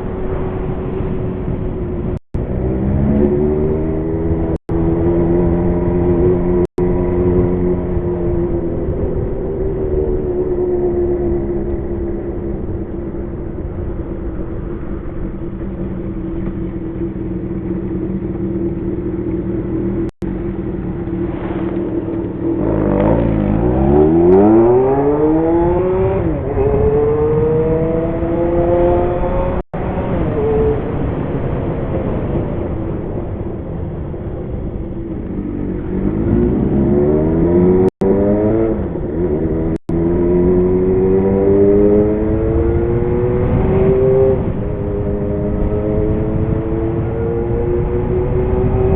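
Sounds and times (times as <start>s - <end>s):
motorcycle engine accelerating: 0.0s - 31.1s, 35.0s - 48.9s.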